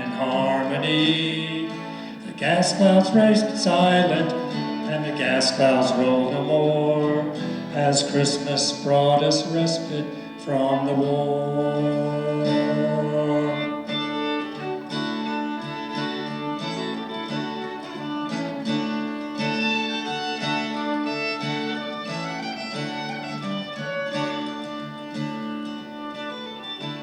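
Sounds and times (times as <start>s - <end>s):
fiddle melody: 0.0s - 27.0s
strummed acoustic guitar: 0.0s - 27.0s.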